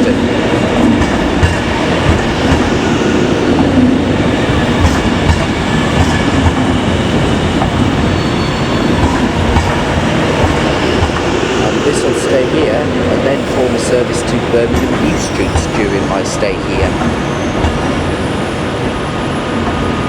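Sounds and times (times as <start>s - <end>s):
wheels clacking over rail joints: 0.0s - 18.0s
electric train rumbling: 0.0s - 20.0s.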